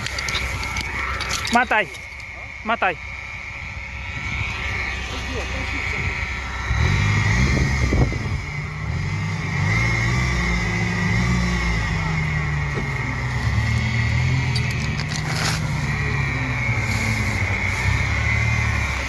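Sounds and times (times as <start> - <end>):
car engine revving: 0.0 - 19.0
high-pitched whine: 0.0 - 19.0.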